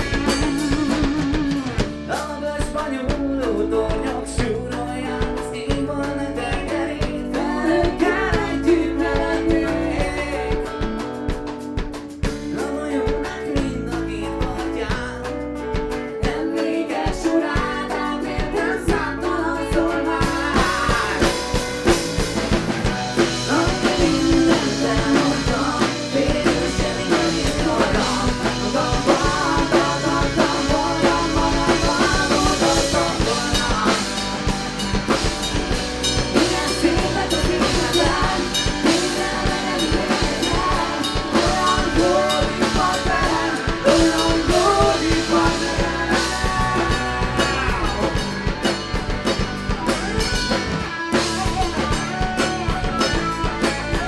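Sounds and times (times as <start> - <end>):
person singing: 0.0 - 49.0
drum kit beat: 0.0 - 54.0
guitar: 0.0 - 54.0.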